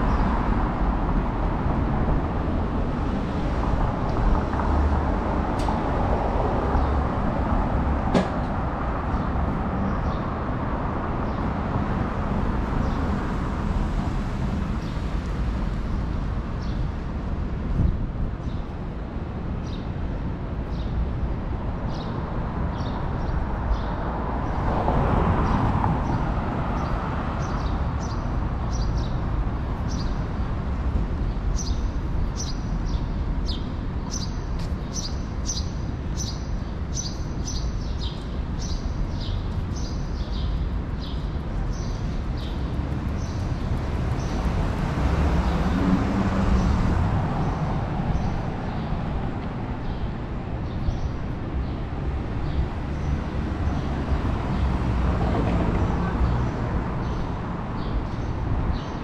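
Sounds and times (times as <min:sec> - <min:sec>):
street traffic: 0:00.0 - 0:59.0
vehicles passing: 0:00.0 - 0:59.0.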